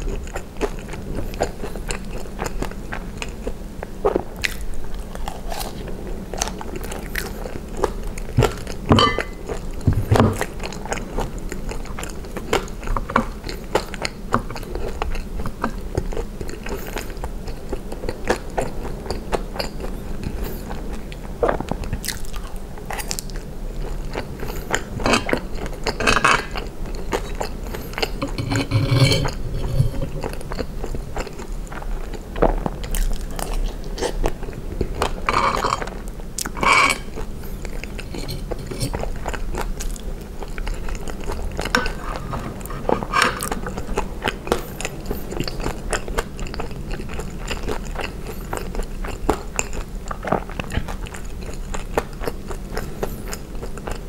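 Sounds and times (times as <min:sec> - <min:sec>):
chewing and biting food: 0:04.1 - 0:54.0.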